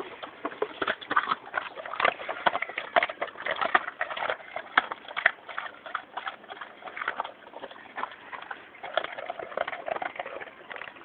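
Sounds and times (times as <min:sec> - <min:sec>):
bones cracking: 0:00.0 - 0:11.0
dogs wet chewing: 0:00.0 - 0:11.0.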